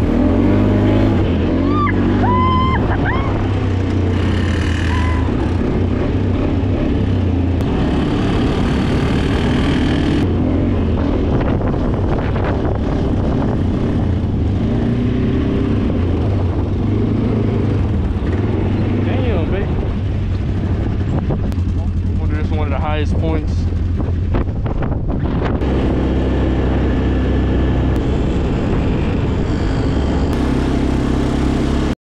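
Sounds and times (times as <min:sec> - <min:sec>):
quad bike engine droning: 0:00.0 - 0:32.0.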